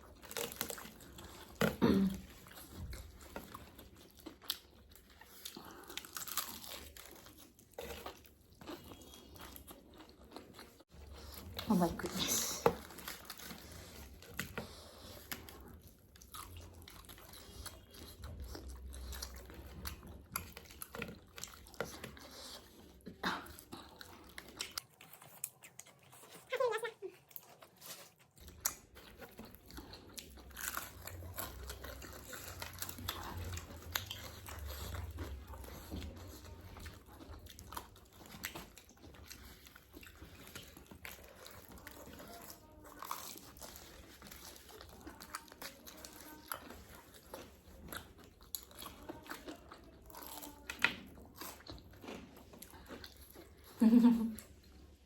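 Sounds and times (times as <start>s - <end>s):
biting and chewing fried chicken: 0.0s - 55.0s.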